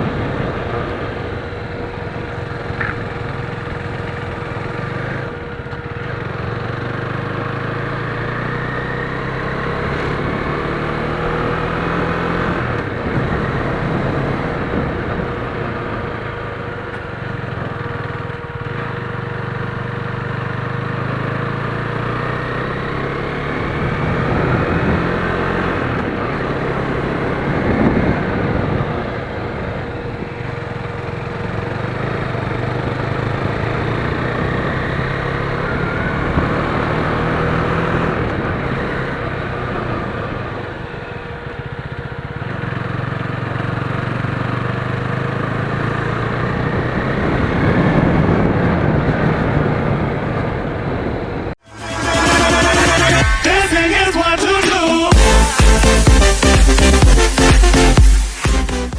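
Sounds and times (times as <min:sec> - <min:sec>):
motorcycle engine revving: 0:00.0 - 0:53.9, 0:55.1 - 0:58.9.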